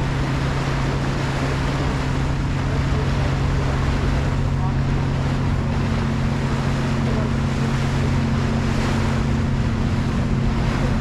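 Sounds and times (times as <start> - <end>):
ferry engine humming: 0.0 - 11.0
rushing water: 0.0 - 11.0
wind: 0.0 - 11.0.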